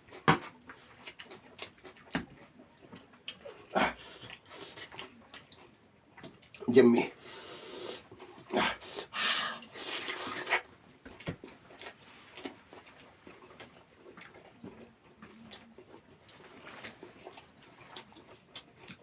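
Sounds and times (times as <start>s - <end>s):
chewing clicks and mouth smacks: 0.1s - 6.6s, 10.0s - 19.0s.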